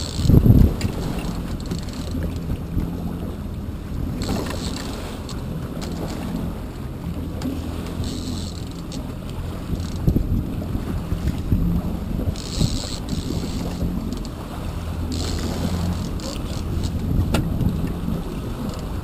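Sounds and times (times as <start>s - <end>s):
boat engine running at low revs: 0.0s - 19.0s
water splashing around hull: 0.0s - 19.0s
wind gusts on microphone: 0.0s - 19.0s.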